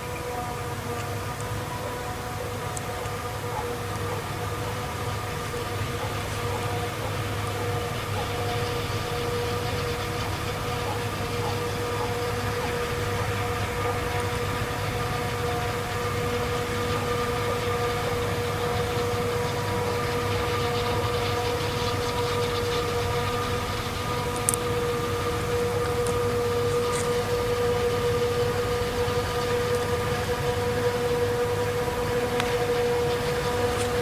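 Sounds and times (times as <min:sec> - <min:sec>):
diesel engine drone: 0:00.0 - 0:34.0
machinery whine: 0:00.0 - 0:34.0.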